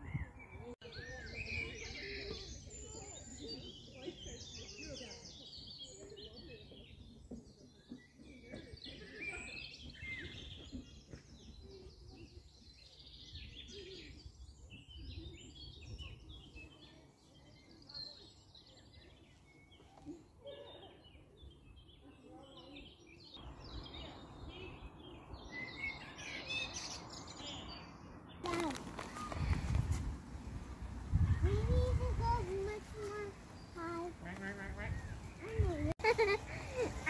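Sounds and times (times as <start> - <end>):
songbirds chirping and singing: 0.0 - 29.9, 30.5 - 37.0.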